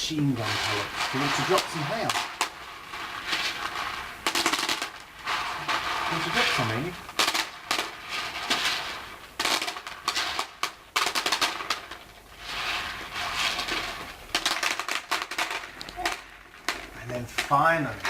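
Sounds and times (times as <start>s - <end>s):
pellets pouring hiss: 0.0s - 18.0s
pellets clattering on hard surface: 0.1s - 18.0s.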